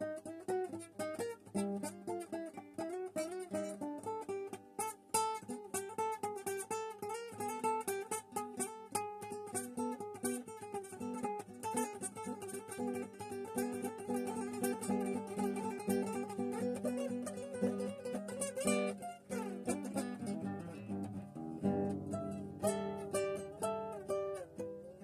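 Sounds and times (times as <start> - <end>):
acoustic guitar melody: 0.0 - 25.0.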